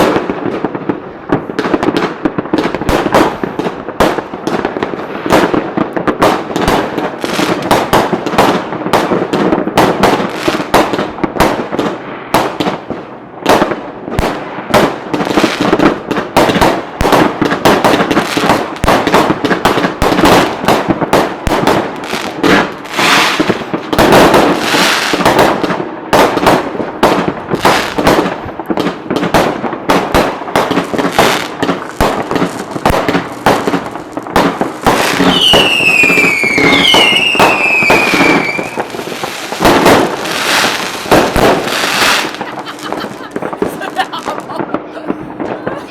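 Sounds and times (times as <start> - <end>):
fireworks bursting and crackling: 0.0 - 45.9
whistling fireworks: 0.0 - 45.9.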